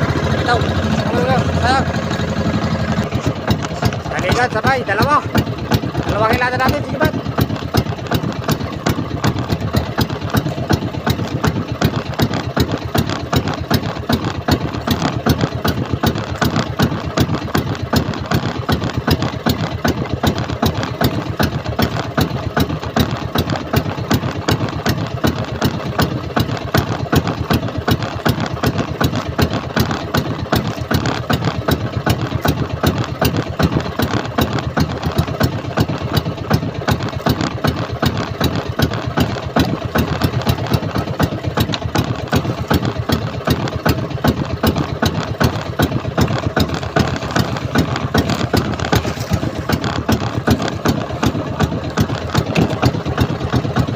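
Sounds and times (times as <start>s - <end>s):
boat engine chugging: 0.0s - 53.9s.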